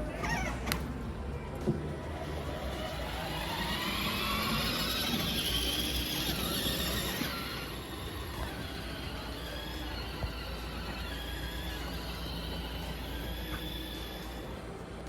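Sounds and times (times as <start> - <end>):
ride car whining on track: 0.0 - 15.0
steady rumble: 0.9 - 15.0.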